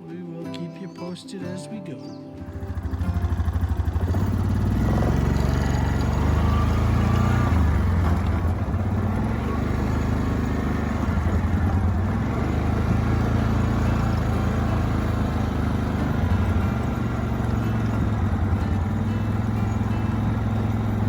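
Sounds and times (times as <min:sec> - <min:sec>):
engine running with low throb: 0:02.4 - 0:21.0.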